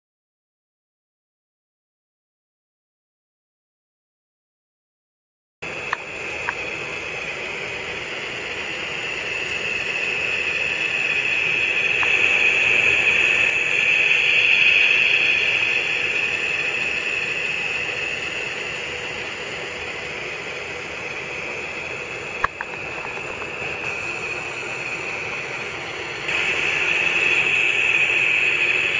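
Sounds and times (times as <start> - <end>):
model train fan motor whirring: 5.6 - 28.9.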